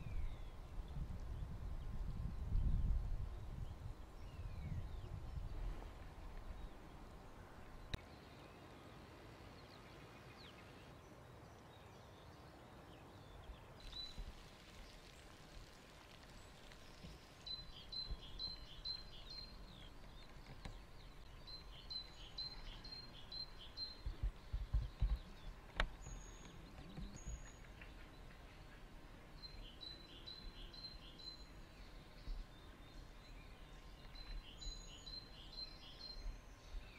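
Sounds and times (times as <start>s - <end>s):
faint outdoor background noise: 0.0s - 36.9s.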